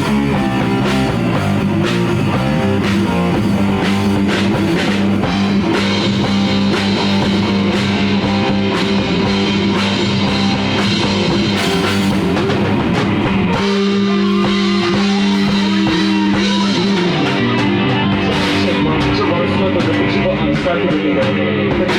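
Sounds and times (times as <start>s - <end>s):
drum kit with cymbals: 0.0s - 21.9s
electric guitars: 0.0s - 21.9s
rock band playing loudly: 0.0s - 21.9s.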